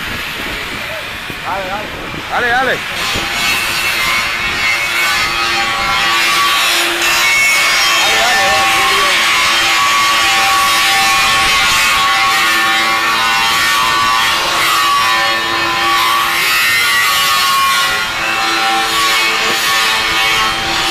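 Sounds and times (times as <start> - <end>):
power tool grinding steel pipe: 0.0 - 20.9.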